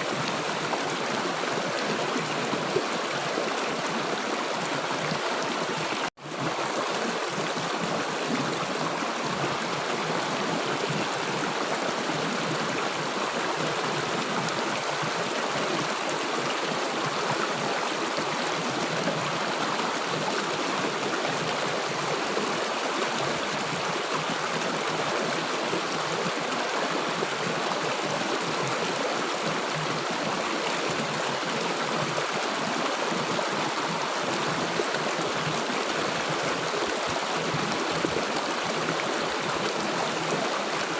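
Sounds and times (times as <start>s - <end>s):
river water rushing and gurgling: 0.0s - 40.9s.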